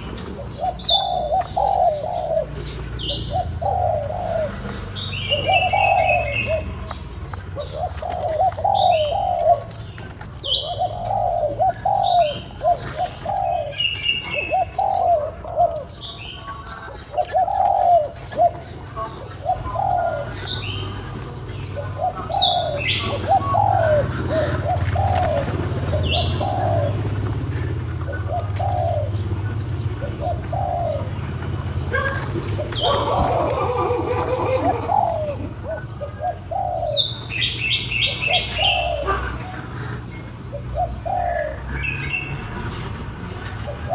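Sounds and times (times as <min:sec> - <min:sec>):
dove cooing: 0:00.0 - 0:43.9
small birds chirping: 0:00.0 - 0:43.9.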